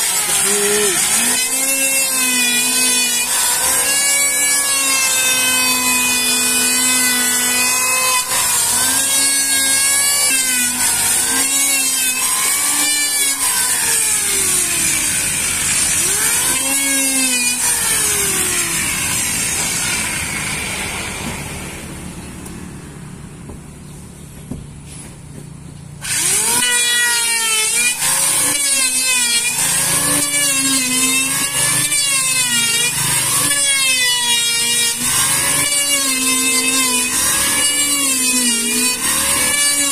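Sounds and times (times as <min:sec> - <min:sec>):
electric planer shaving wood: 0:00.0 - 0:23.2, 0:25.8 - 0:39.9.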